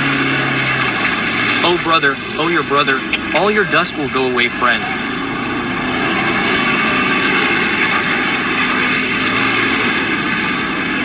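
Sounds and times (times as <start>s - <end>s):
vehicle engine running at high revs: 0.0s - 11.0s.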